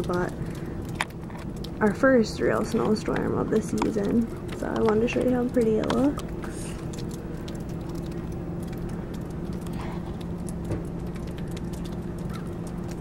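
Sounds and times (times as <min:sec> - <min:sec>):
constant low hum: 0:00.0 - 0:13.0.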